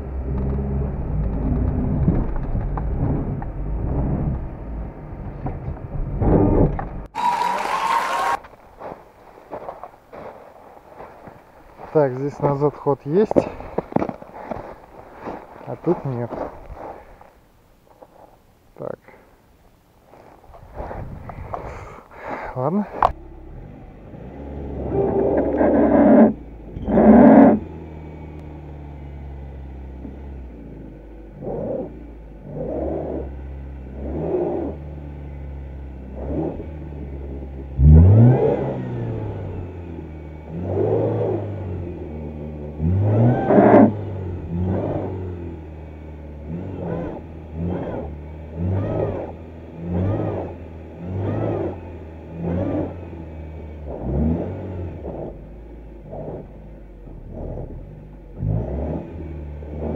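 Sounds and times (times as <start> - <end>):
car engine idling and revving: 0.0 - 19.0, 19.6 - 59.9.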